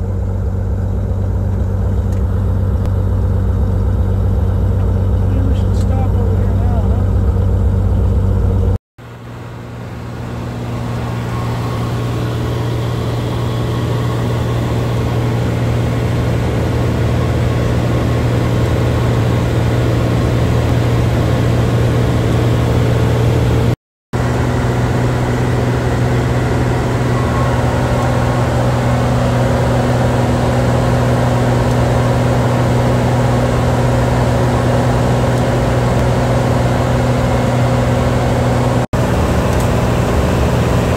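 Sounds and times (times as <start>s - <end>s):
aircraft engine droning in cabin: 0.0s - 40.9s.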